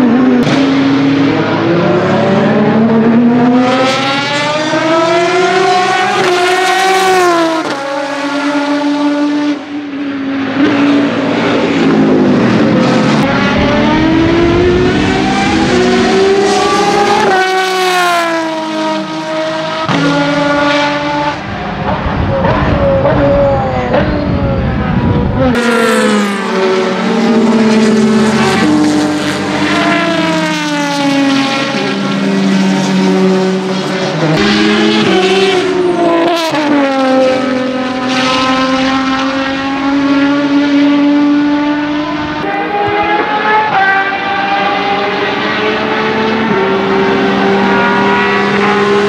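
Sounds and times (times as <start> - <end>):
race car engine passing by: 0.0 - 49.0.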